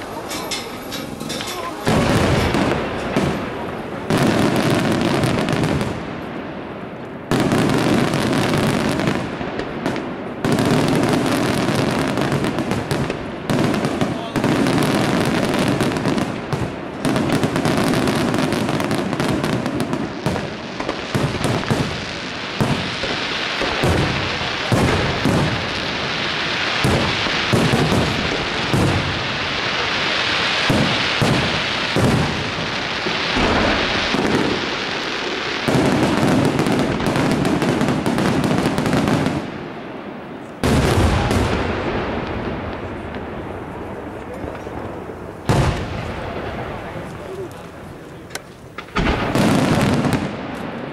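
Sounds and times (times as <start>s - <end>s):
crackling hiss of fireworks: 0.0s - 50.9s
fireworks bursting: 0.0s - 50.9s.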